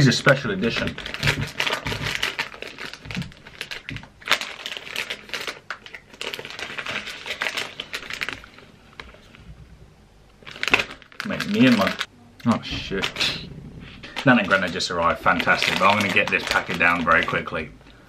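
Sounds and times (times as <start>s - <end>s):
plastic snack bag crinkling: 0.0s - 9.3s, 10.4s - 12.1s, 12.9s - 13.4s, 14.0s - 17.7s.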